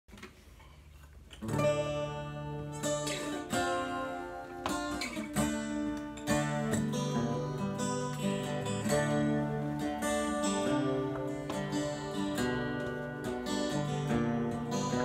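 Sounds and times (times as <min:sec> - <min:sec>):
acoustic guitar strumming: 0:01.4 - 0:15.0.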